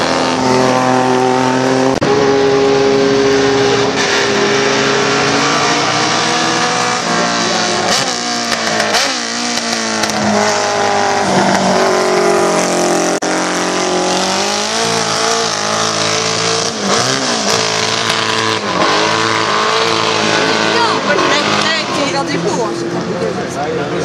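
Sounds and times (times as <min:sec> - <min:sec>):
motorcycle engine revving hard: 0:00.0 - 0:23.0.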